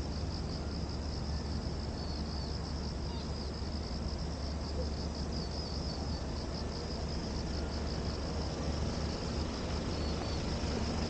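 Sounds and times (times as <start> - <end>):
cicadas singing: 0.0 - 11.0
low steady rumble: 0.0 - 11.0.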